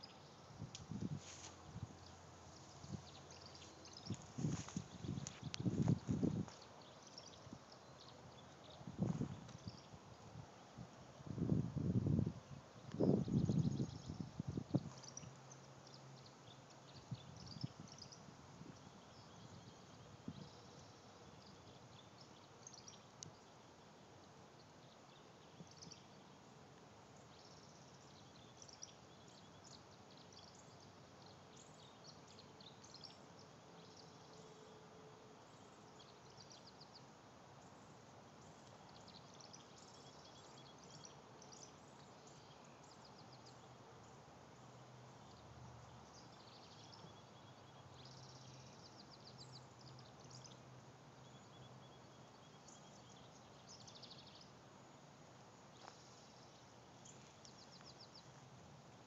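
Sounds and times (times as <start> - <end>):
faint bird chirps and trills: 0.0 - 59.0
faint steady hiss: 0.0 - 59.0.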